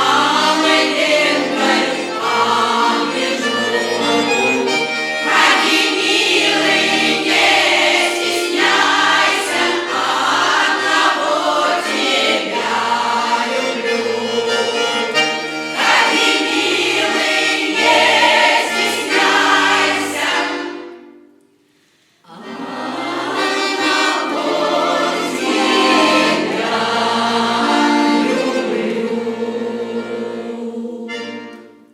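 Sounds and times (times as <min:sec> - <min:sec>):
folk choir singing: 0:00.0 - 0:21.2, 0:22.2 - 0:31.9
instrumental accompaniment: 0:00.0 - 0:31.9.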